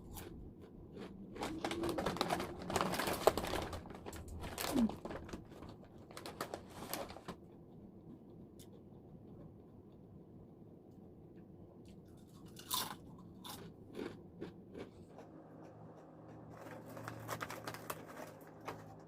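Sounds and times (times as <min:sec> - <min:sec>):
chewing crunchy chips: 0:00.0 - 0:08.8, 0:11.9 - 0:19.0.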